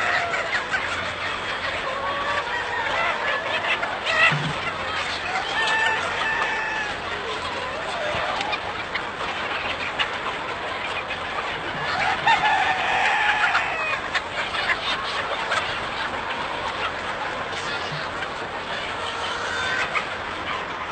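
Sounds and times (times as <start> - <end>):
chickens clucking: 0.0 - 20.9
drawn-out chicken call: 0.0 - 20.9.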